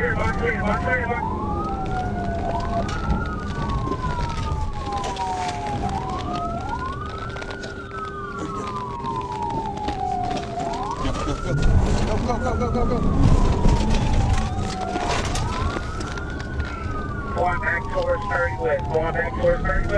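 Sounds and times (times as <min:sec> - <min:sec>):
police siren wailing: 0:00.0 - 0:19.9.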